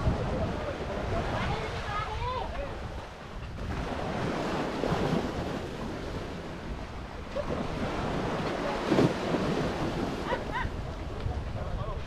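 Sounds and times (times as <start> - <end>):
sea waves washing: 0.0 - 12.0
wind buffeting microphone: 0.0 - 12.0.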